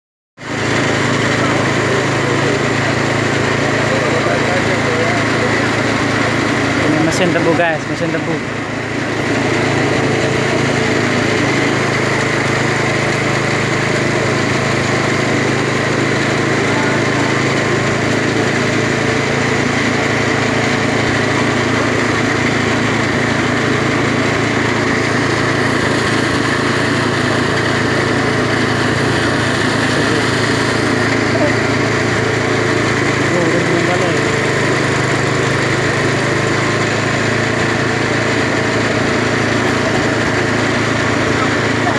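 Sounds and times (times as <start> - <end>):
small petrol engine running: 0.4 - 41.9.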